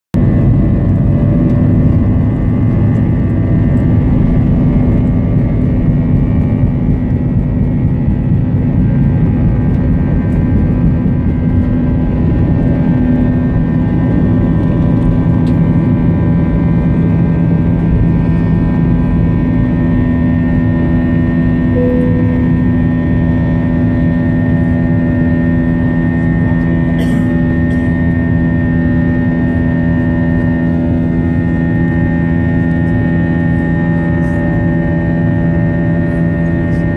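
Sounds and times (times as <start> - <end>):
airliner engines rumbling in cabin: 0.2 - 36.9.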